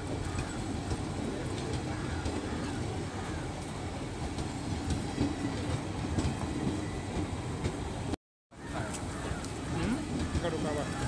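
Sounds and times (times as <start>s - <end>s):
rumble of train wheels on track: 0.0s - 11.0s.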